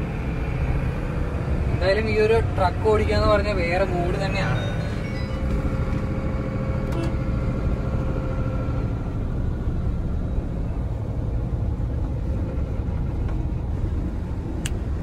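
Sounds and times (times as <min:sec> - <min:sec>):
diesel truck engine running: 0:00.0 - 0:15.0
road rumble: 0:00.0 - 0:15.0.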